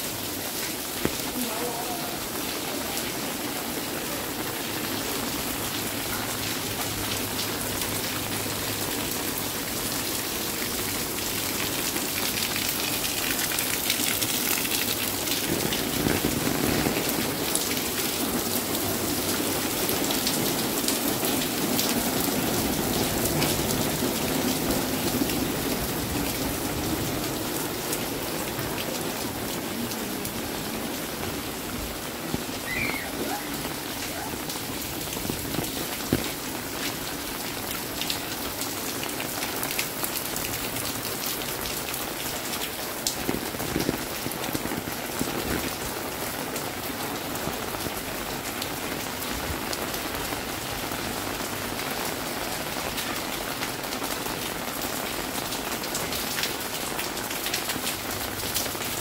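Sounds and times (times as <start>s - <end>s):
rain on pavement: 0.0s - 59.0s.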